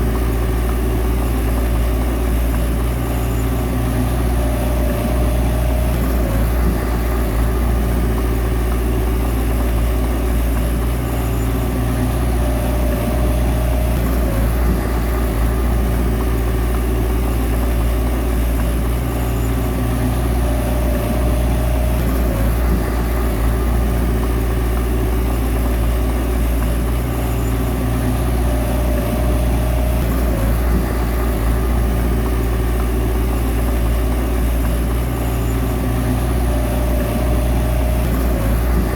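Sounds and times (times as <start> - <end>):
bulldozer diesel engine: 0.0 - 38.9.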